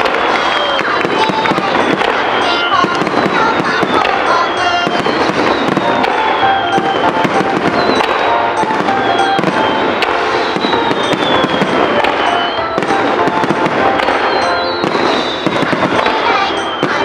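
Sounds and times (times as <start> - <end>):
fireworks crackling and popping: 0.0 - 17.0
music playing: 0.0 - 17.0.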